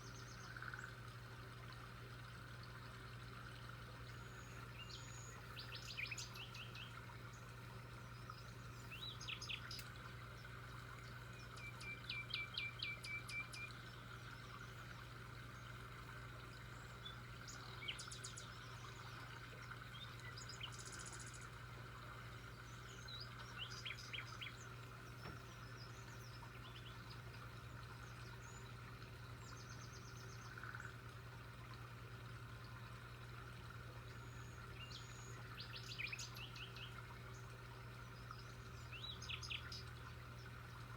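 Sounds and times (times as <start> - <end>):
wild birds chirping: 4.1 - 21.7, 22.3 - 31.0, 34.1 - 40.6.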